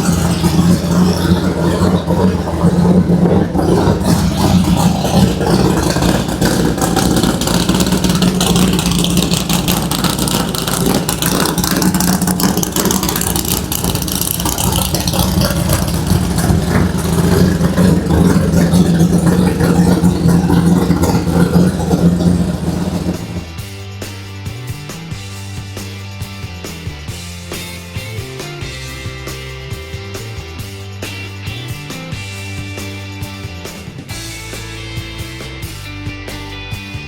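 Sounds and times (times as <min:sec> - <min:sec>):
drag car engine idling loudly: 0:00.0 - 0:36.5.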